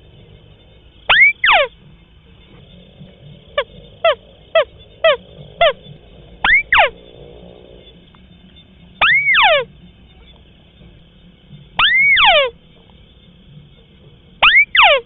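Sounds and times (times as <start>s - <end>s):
crake calling: 0.8s - 13.0s, 14.4s - 15.0s.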